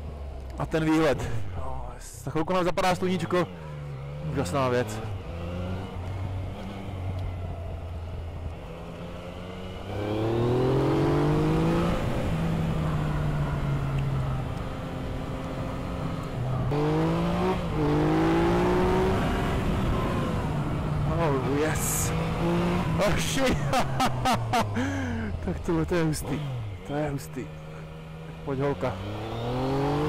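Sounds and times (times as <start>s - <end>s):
motorcycle engine accelerating: 2.8s - 30.0s.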